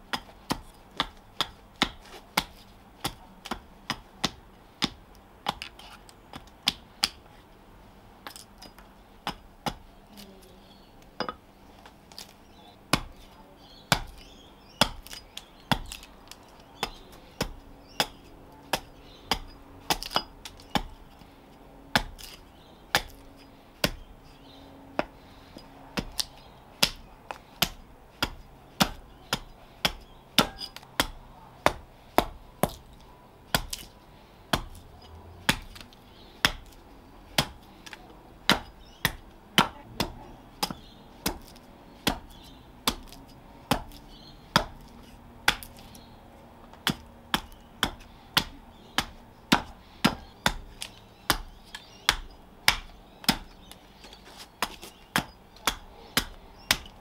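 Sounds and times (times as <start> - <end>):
axe chopping wood: 0.0 - 7.3, 8.2 - 10.3, 12.9 - 13.3, 13.9 - 21.3, 21.9 - 24.2, 25.0 - 57.0.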